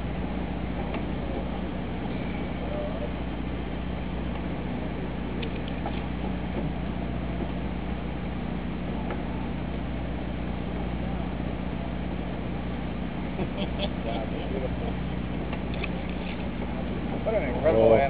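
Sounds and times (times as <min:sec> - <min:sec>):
boat machinery humming: 0:00.0 - 0:18.0.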